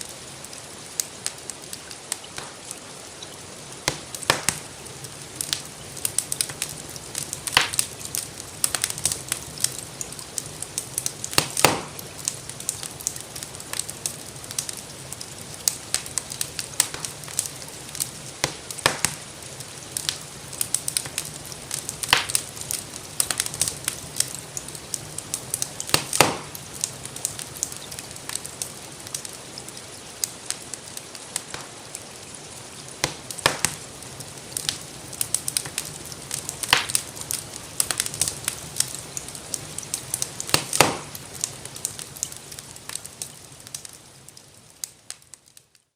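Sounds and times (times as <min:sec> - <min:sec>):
rainfall hiss: 0:00.0 - 0:45.7
wood fire crackling: 0:00.0 - 0:45.9.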